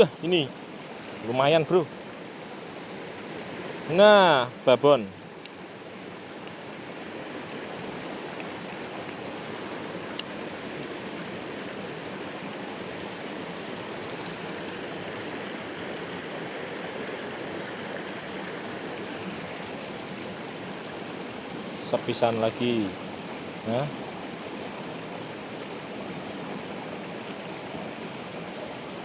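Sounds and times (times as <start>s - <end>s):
river water flowing over rocks: 0.0s - 29.0s.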